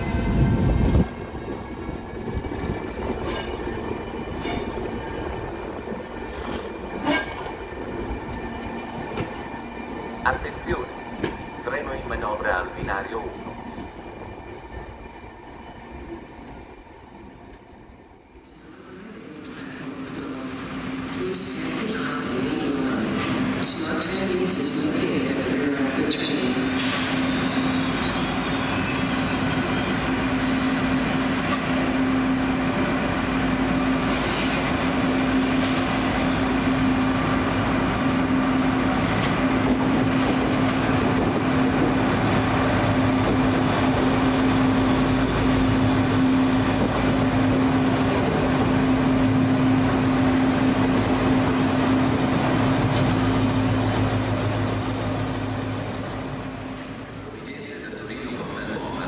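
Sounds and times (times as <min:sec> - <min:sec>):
train humming: 0:00.0 - 0:59.0.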